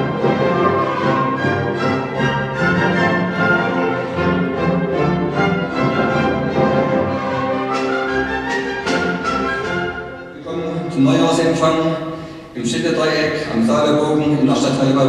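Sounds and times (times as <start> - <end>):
orchestra playing dance music: 0.0 - 15.0.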